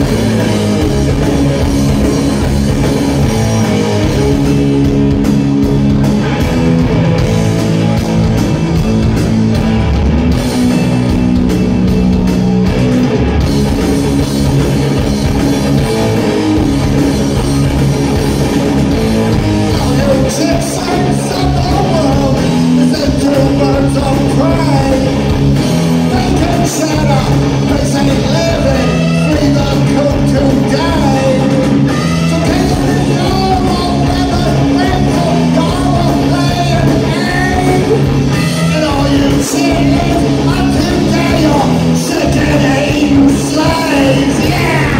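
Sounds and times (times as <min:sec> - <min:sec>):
drum kit playing: 0:00.0 - 0:44.9
electric guitar riffing: 0:00.0 - 0:44.9.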